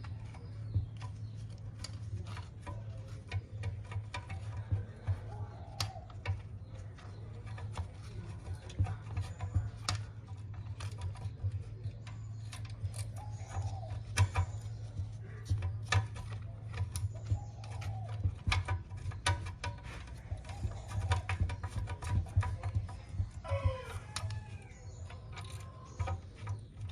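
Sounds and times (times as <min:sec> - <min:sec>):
sharp clicks and taps: 0:00.0 - 0:26.9
steady low hum: 0:00.0 - 0:26.9.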